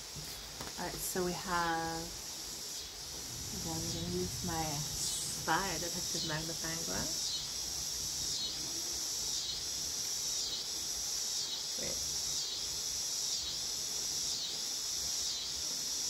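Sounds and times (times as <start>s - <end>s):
faint background hiss: 0.0s - 16.0s
insects trilling: 0.0s - 16.0s.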